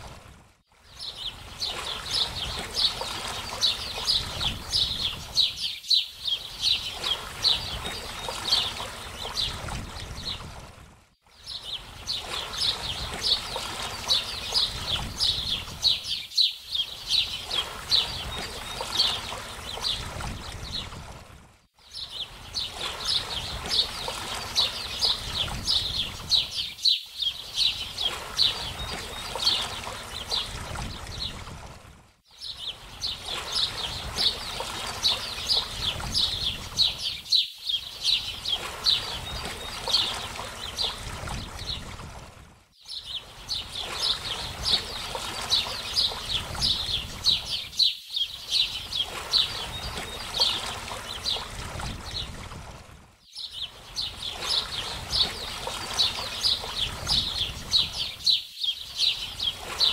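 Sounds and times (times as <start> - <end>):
running water: 0.0 - 59.9
small birds chirping: 0.9 - 10.4, 11.3 - 21.0, 21.8 - 31.4, 32.3 - 41.8, 42.8 - 52.3, 53.3 - 59.9.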